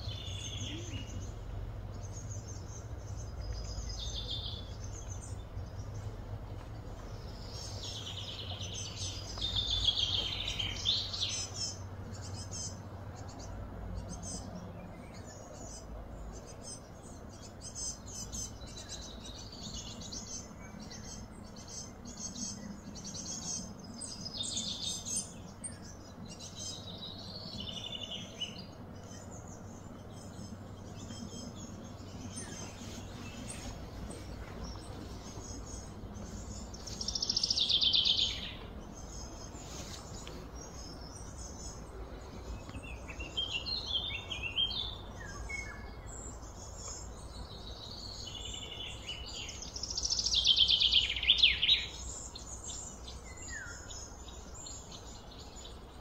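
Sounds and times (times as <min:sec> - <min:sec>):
birds chirping: 0:00.0 - 0:56.0
low background noise: 0:00.0 - 0:56.0.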